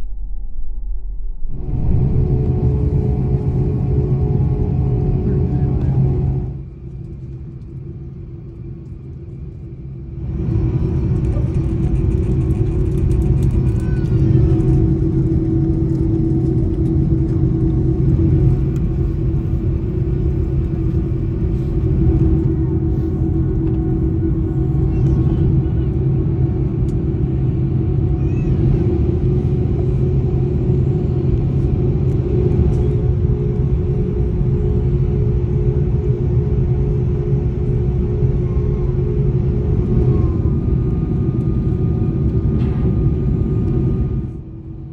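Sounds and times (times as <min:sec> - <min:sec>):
jet engines rumbling in cabin: 0:00.0 - 0:44.9.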